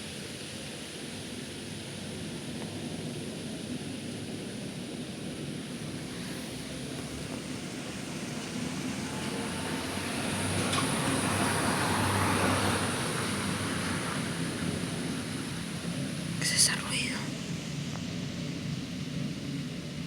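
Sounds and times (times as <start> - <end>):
rushing rumble in the sky: 0.0 - 16.4, 17.3 - 20.0.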